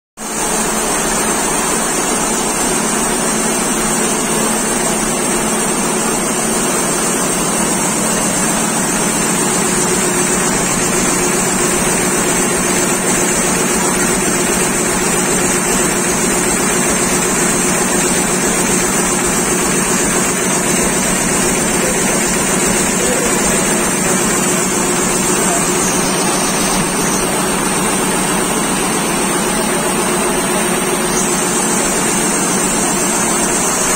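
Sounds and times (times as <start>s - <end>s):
embroidery machine stitching: 0.3s - 33.9s.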